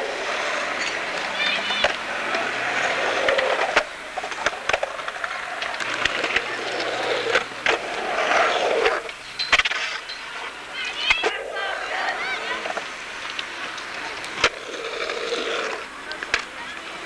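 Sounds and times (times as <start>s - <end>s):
skateboard clacking on concrete: 0.0s - 17.0s
skateboard wheels rolling on concrete: 0.0s - 17.0s.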